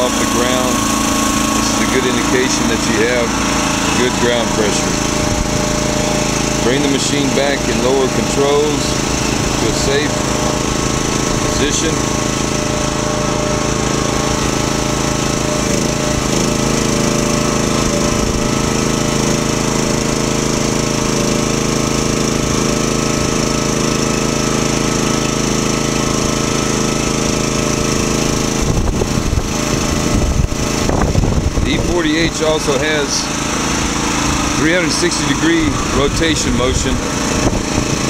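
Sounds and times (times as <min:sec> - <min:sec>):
engine and hydraulic pump running: 0:00.0 - 0:38.0.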